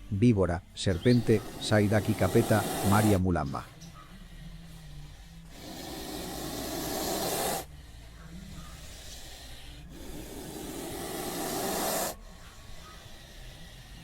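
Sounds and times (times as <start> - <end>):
snake hissing: 0.0 - 14.0.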